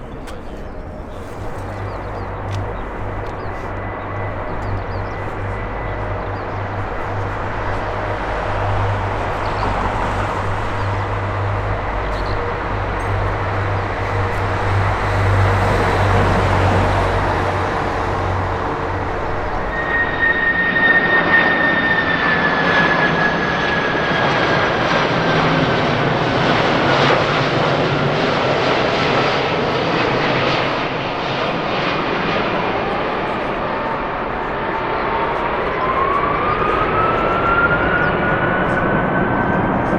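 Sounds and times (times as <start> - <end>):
high engine whine: 0.0 - 39.9
jet airliner engines roaring: 0.0 - 39.9.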